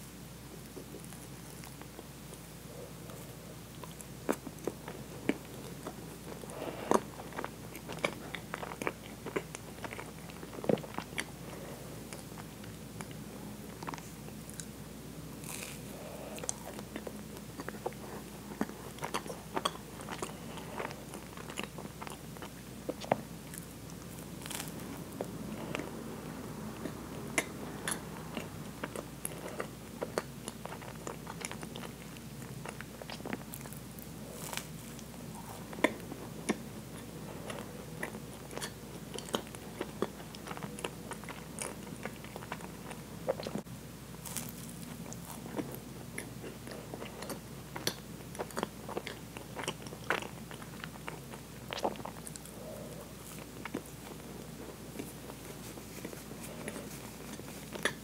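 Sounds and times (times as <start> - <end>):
close chewing with mouth sounds: 0.2 - 58.0.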